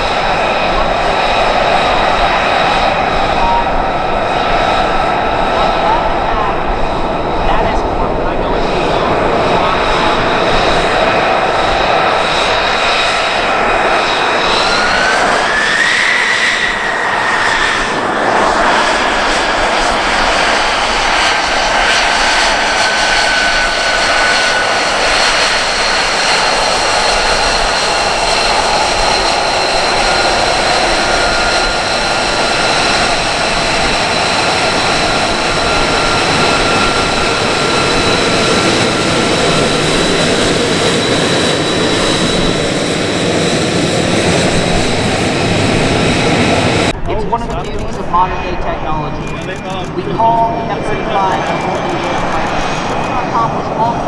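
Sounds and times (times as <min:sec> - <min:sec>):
jet engine roar with whine: 0:00.0 - 0:54.0.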